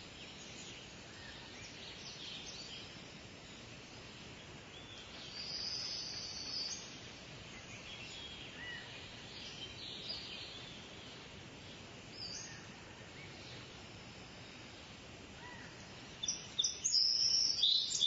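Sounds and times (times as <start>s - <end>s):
background hiss: 0.0s - 18.0s
small birds chirping: 0.0s - 18.0s.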